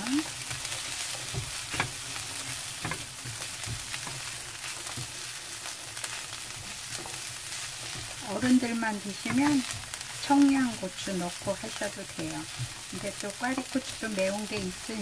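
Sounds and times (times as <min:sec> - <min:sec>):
food sizzling in frying pan: 0:00.0 - 0:15.0
spatula scraping pan: 0:00.2 - 0:15.0.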